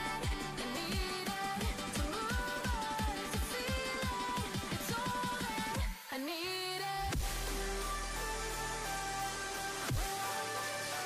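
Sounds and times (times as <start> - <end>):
electronic music with kick drum: 0.0 - 6.0, 7.1 - 11.0.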